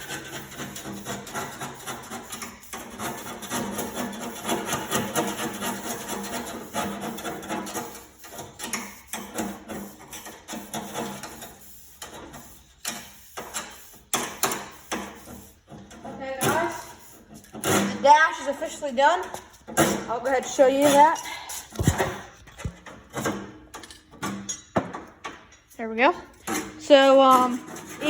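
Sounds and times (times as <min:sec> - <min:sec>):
scraper rasping on metal: 0:00.0 - 0:23.4, 0:26.4 - 0:28.0.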